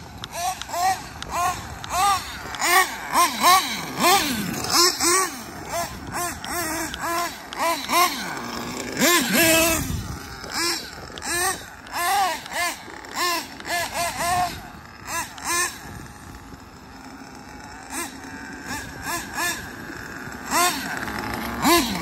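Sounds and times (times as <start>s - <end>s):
model car engine revving: 0.0s - 22.0s.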